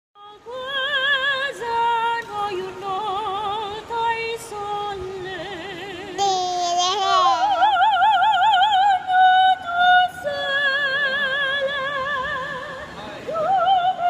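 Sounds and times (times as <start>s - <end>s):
woman singing operatically: 0.2s - 14.0s.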